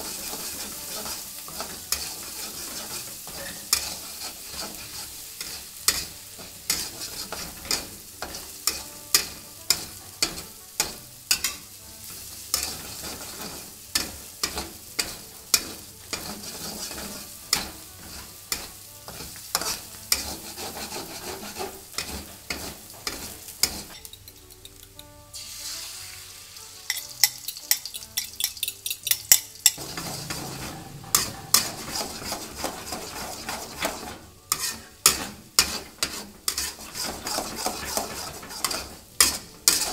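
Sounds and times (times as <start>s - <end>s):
metal spatula scraping wok: 0.0s - 25.1s, 26.8s - 39.9s
hot oil sizzling: 0.0s - 39.9s.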